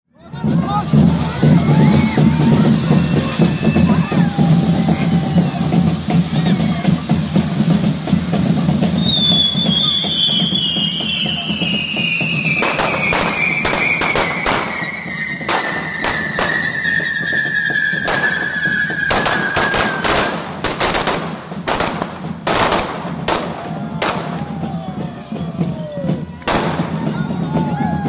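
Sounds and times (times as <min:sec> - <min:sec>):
firecracker bangs: 0:00.4 - 0:28.0
firework whistle falling in pitch: 0:00.8 - 0:28.0.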